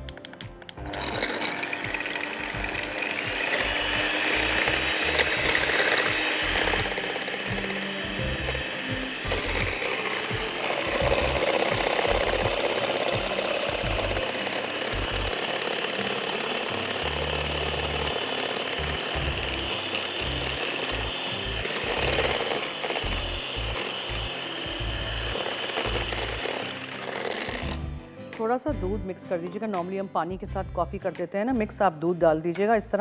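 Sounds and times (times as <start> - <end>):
electric hand mixer running: 0.8 - 28.1.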